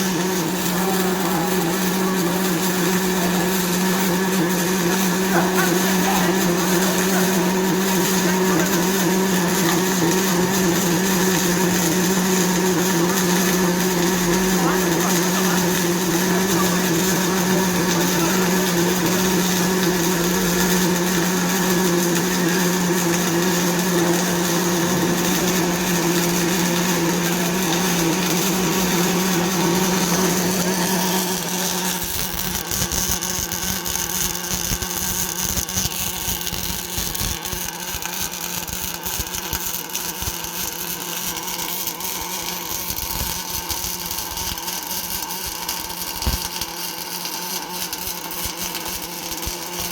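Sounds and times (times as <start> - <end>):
arc welding crackle: 0.0 - 49.9
welding machine hum: 0.0 - 49.9.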